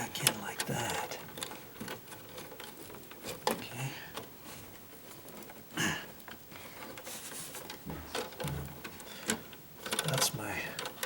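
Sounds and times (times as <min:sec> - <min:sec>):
wires scraping and rustling: 0:00.0 - 0:11.0.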